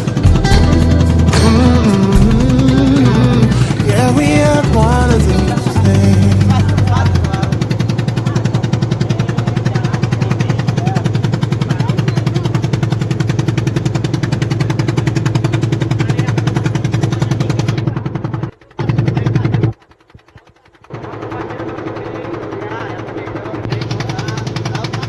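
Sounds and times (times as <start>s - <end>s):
small engine putter: 0.0s - 25.0s.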